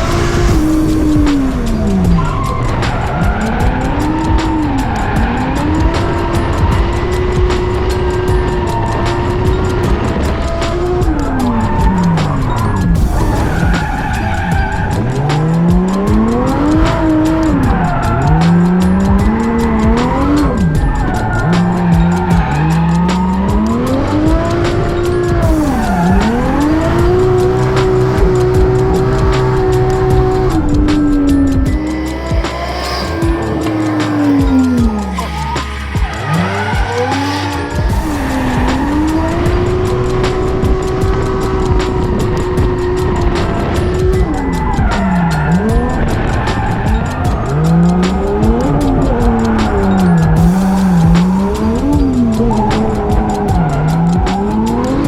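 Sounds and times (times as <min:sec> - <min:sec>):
turbocharged engine revving: 0:00.0 - 0:55.0
tyre squeal: 0:00.0 - 0:55.0.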